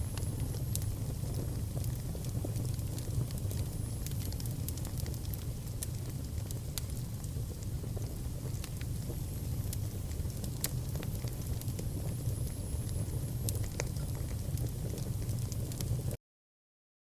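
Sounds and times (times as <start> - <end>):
fire low rumble: 0.0 - 16.2
wood fire crackling and popping: 0.0 - 16.2.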